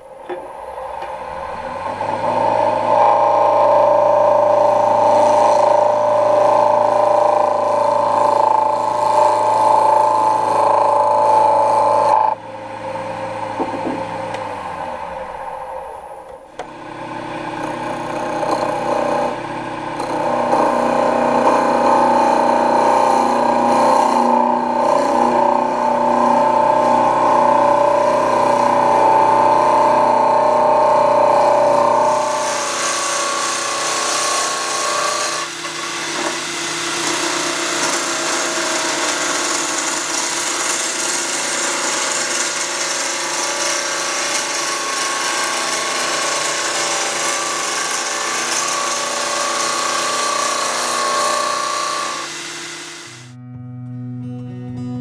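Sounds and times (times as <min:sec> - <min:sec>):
wood lathe whine: 0:00.0 - 0:53.4
gouge cutting wood: 0:01.7 - 0:12.4, 0:16.6 - 0:53.4.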